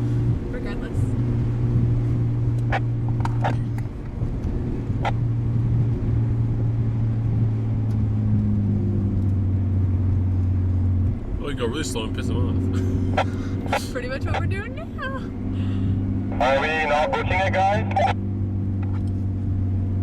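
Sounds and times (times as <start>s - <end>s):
car exhaust drone: 0.0s - 20.0s.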